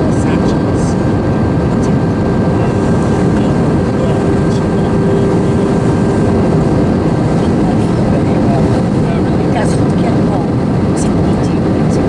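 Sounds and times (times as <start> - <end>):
airplane cabin noise: 0.0 - 12.0
even hum: 0.0 - 12.0.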